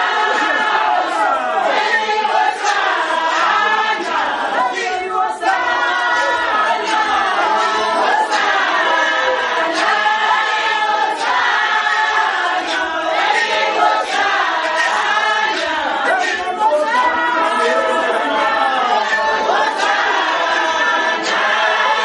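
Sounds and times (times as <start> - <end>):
congregation singing: 0.0 - 22.0.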